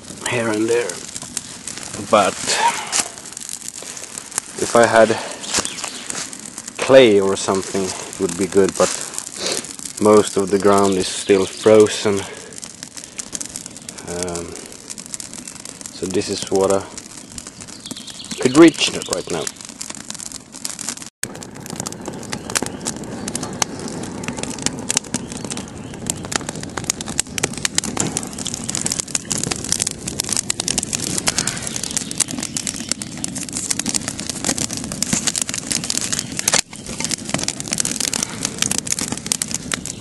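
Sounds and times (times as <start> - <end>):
rush of flame: 0.0 - 40.0
wood fire crackling: 0.0 - 40.0.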